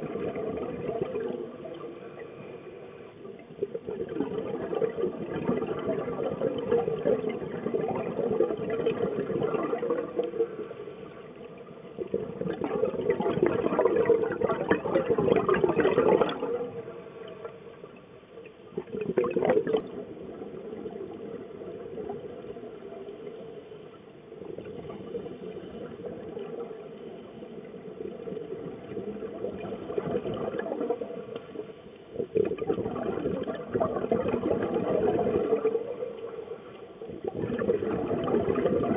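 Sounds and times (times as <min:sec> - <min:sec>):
underwater regulator bubbles: 0:00.0 - 0:38.9.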